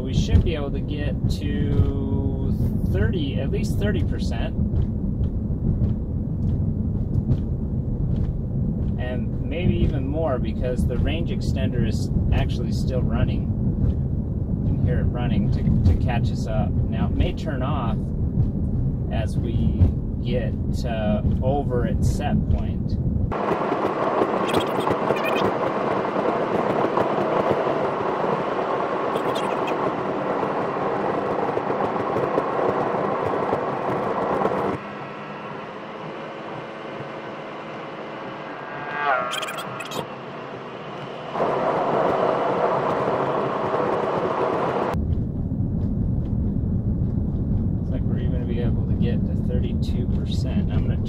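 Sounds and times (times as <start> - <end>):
low rumble: 0.0 - 51.0
road and wind hiss: 0.0 - 51.0.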